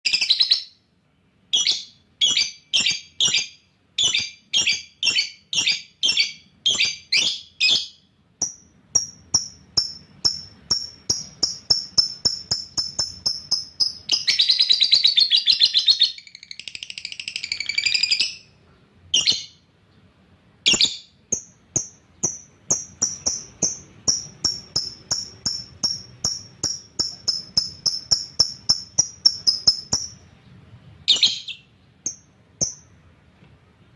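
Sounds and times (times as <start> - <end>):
lovebird chirping: 0.1 - 0.9, 1.5 - 20.0, 20.6 - 33.0.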